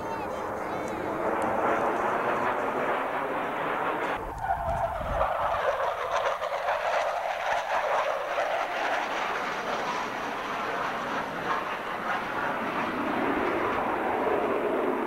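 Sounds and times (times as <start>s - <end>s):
jet flying past: 0.0s - 15.0s
steady jet roar: 0.0s - 15.0s.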